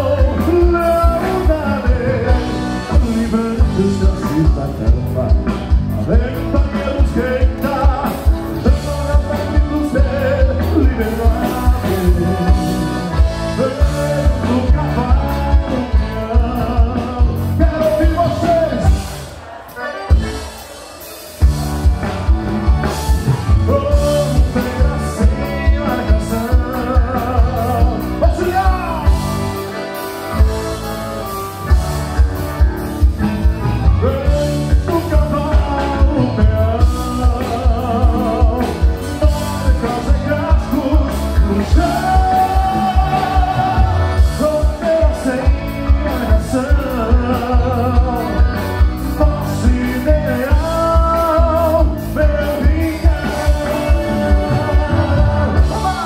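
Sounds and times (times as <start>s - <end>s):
person singing with a band: 0.0s - 56.0s
steady drum beat: 0.0s - 56.0s.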